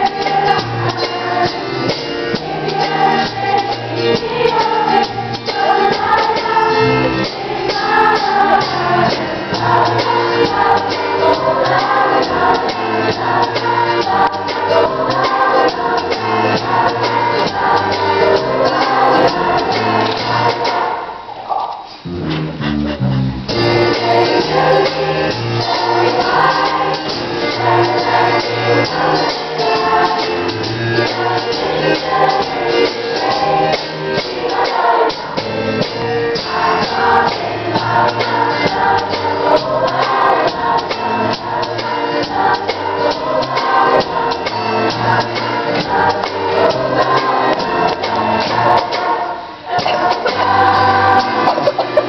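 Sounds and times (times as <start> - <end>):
girls' choir singing pop song: 0.0 - 22.0, 23.6 - 52.0
instrumental accompaniment with beat: 0.0 - 52.0.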